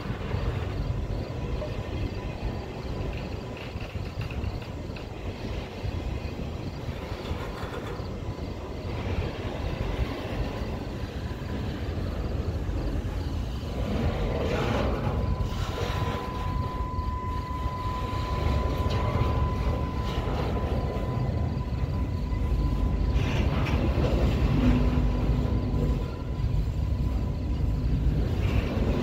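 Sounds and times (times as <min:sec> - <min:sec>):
freight train rumbling on rails: 0:00.0 - 0:29.0
thin steady whine: 0:00.0 - 0:29.0.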